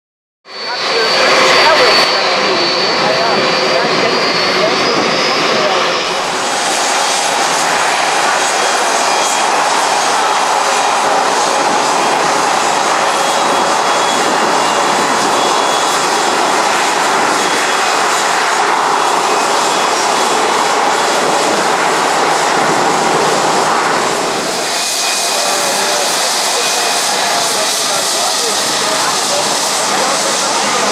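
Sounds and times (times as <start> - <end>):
jet engines running: 0.5 - 30.9.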